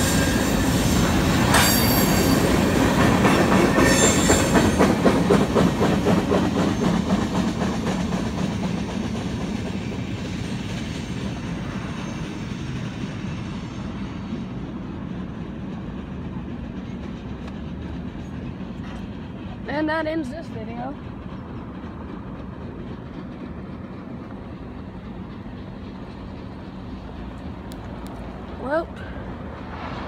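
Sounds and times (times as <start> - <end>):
train wheels clacking over rail joints: 0.0 - 13.2, 14.7 - 29.3.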